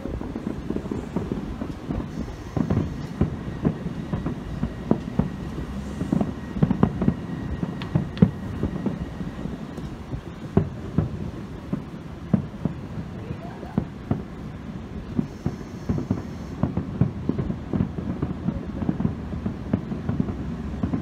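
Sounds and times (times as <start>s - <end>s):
continuous low rumble: 0.0s - 21.0s
fireworks bursting: 0.0s - 21.0s.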